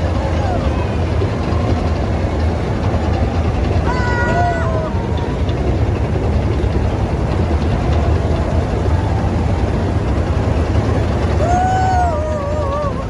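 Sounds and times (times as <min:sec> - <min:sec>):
armored vehicle engines rumbling: 0:00.0 - 0:13.0.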